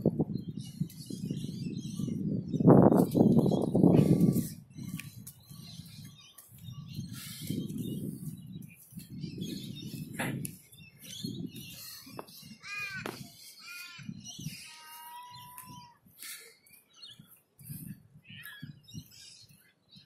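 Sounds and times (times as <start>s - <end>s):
birds calling: 0.0s - 20.0s.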